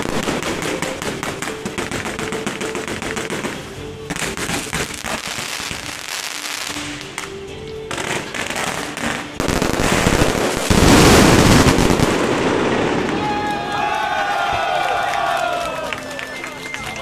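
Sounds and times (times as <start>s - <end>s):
firecrackers crackling: 0.0s - 17.0s
music: 0.0s - 17.0s.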